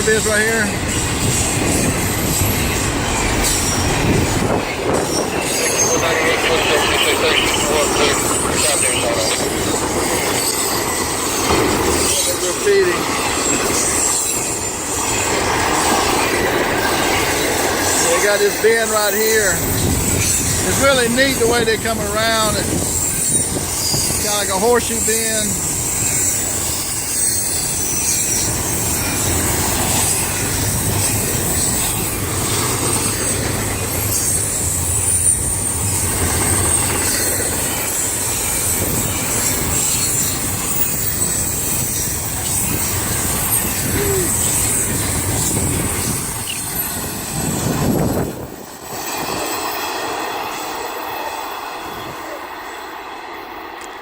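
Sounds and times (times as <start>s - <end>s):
freight train cars rumbling: 0.0s - 54.0s
steel wheels squealing on rail: 0.0s - 54.0s.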